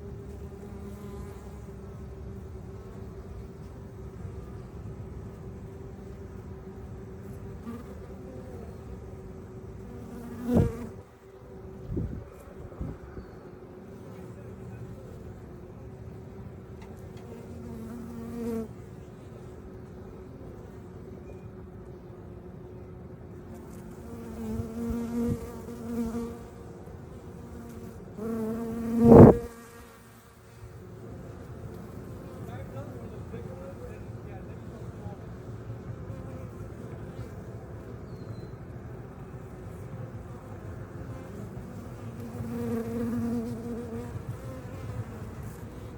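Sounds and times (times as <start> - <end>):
honeybees buzzing: 0.0 - 38.0, 38.8 - 45.9.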